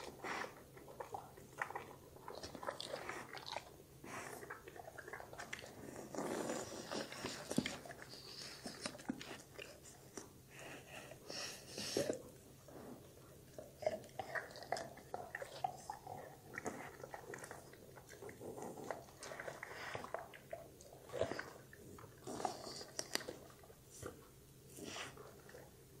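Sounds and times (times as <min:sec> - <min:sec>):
dog chewing vegetable: 0:00.0 - 0:26.0.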